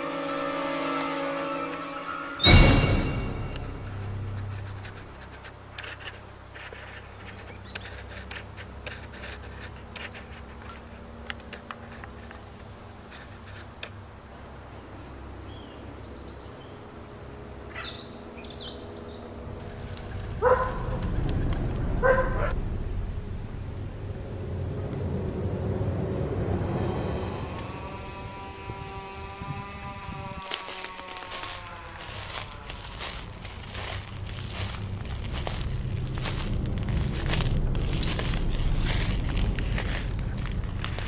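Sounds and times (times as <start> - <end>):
low steady hum: 0.0 - 17.7, 18.7 - 41.0.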